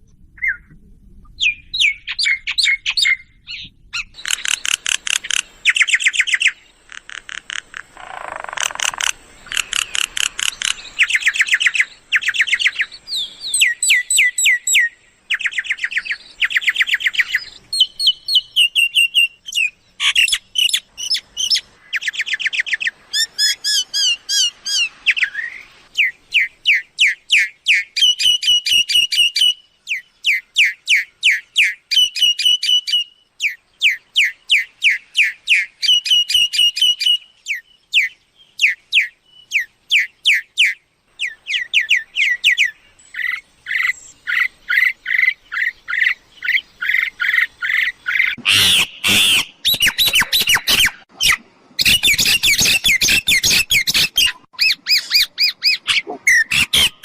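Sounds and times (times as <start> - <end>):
myna bird calls: 1.4 - 57.0.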